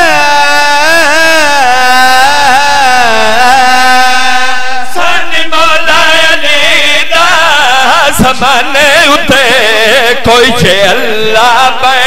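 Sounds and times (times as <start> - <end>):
men singing into a microphone: 0.0 - 12.0.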